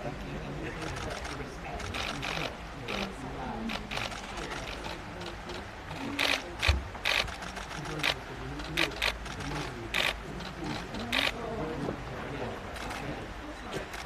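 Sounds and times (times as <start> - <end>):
low background murmur: 0.0 - 14.0.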